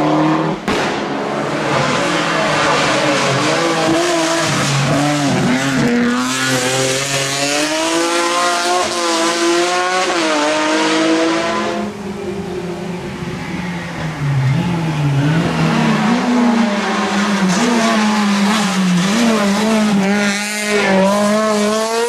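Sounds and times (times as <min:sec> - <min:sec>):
rally car engine revving: 0:00.0 - 0:12.5, 0:13.9 - 0:22.0.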